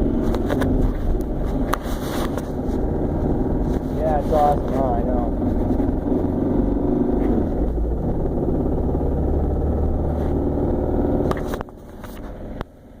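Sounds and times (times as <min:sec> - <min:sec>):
engine running with rod knock: 0:00.0 - 0:13.0.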